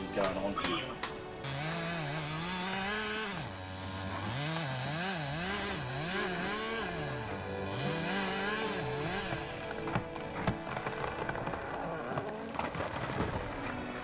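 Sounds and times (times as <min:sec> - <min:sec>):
chainsaw cutting tree: 0:00.2 - 0:14.0.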